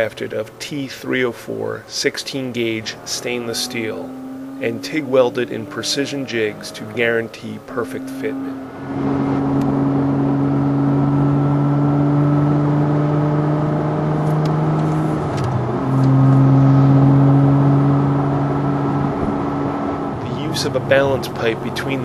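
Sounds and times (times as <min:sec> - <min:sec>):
car engine running: 0:00.1 - 0:22.0.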